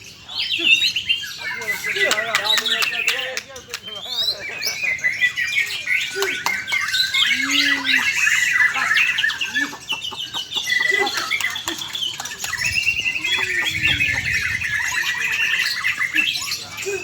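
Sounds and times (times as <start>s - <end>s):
bird singing varied song: 0.0s - 17.0s.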